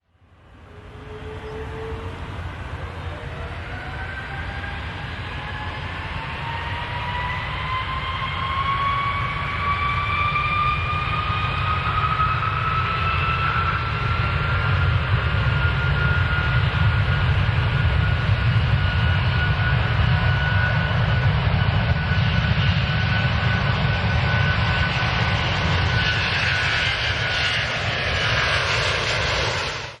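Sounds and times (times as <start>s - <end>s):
airplane engines rumbling: 0.0s - 30.0s.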